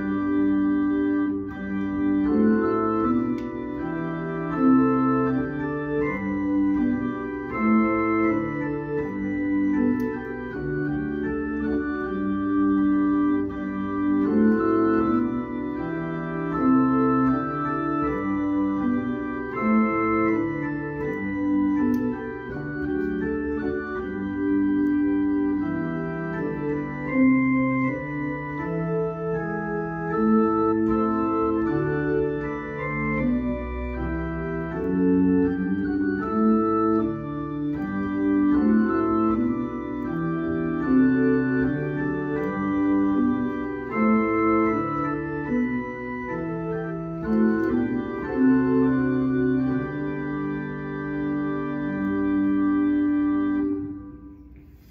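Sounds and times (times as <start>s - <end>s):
organ pedal bass line: 0.0s - 54.9s
organ playing hymn chords: 0.0s - 54.9s.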